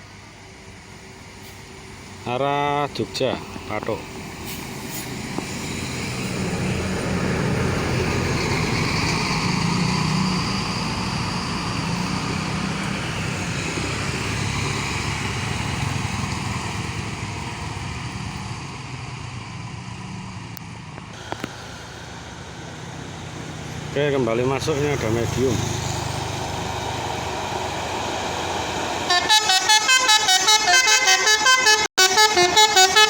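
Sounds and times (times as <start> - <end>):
bus engine passing by: 0.0 - 33.0.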